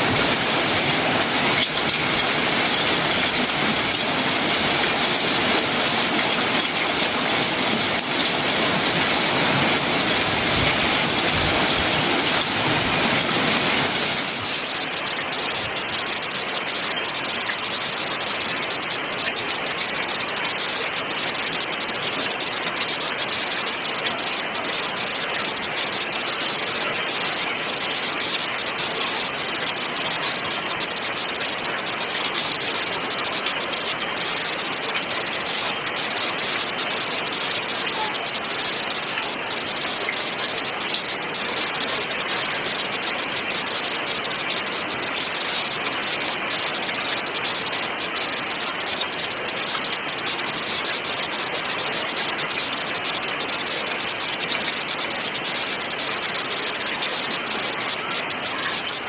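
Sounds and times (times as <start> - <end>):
heavy rain on a metal roof: 0.0 - 59.0
water pouring from a gutter spout: 0.0 - 59.0.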